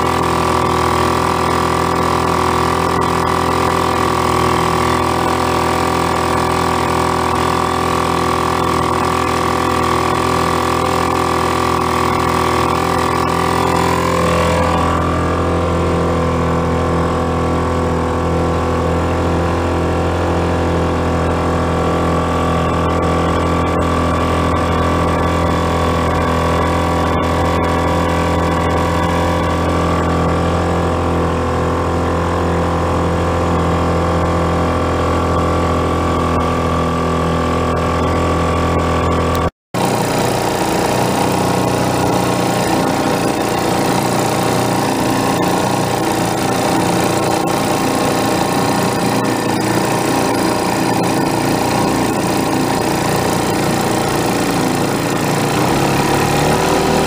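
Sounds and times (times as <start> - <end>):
small outboard motor running: 0.0 - 57.0.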